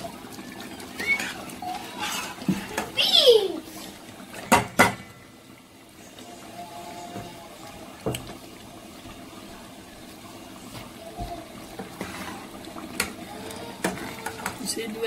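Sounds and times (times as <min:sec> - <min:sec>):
pot of beans bubbling: 0:00.0 - 0:15.0.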